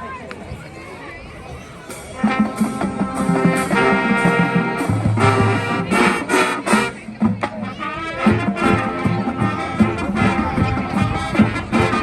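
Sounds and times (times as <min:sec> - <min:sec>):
marching drums: 0:01.9 - 0:12.0
brass carrying the tune: 0:02.1 - 0:12.0.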